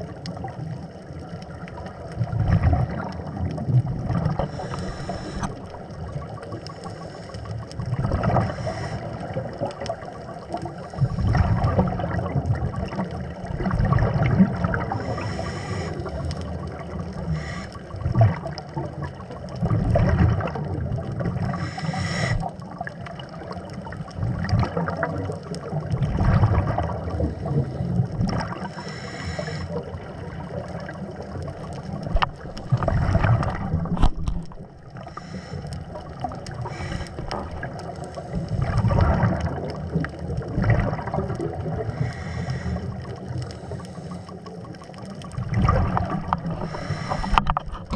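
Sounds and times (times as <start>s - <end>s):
muffled water noise: 0.0s - 47.9s
regulator bubbles gurgling: 0.0s - 47.9s.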